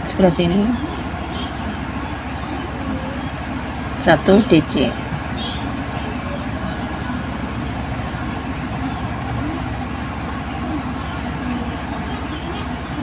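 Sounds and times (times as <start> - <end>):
low rumble with hiss: 0.0 - 13.0.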